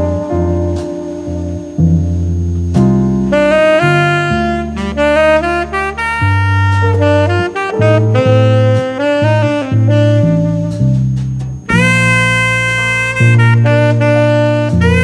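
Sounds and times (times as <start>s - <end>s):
jazz saxophone melody: 0.0s - 15.0s
walking bass line: 0.0s - 15.0s.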